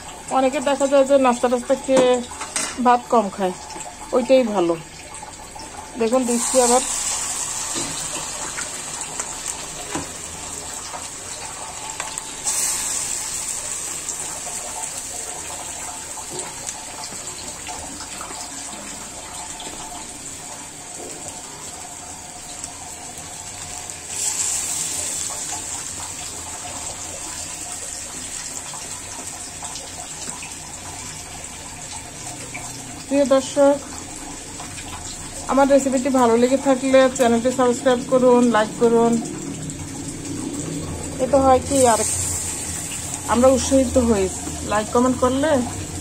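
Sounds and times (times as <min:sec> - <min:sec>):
fritters deep-frying in hot oil: 0:00.0 - 0:46.0.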